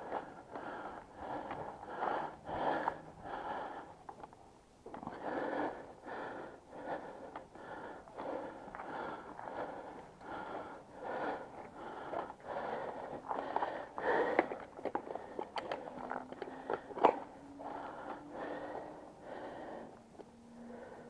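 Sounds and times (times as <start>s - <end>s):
heavy rapid breathing: 0.0s - 4.3s, 4.9s - 21.0s.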